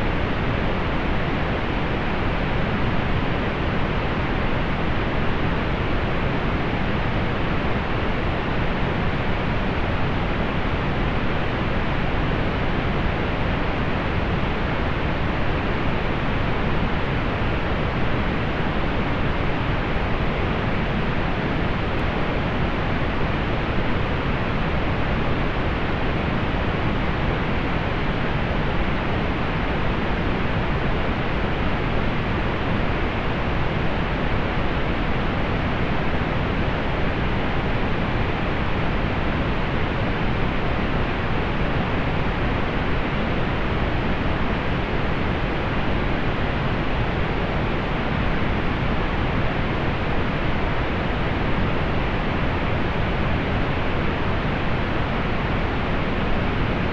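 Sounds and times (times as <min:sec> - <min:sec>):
pink noise hiss: 0:00.0 - 0:56.9.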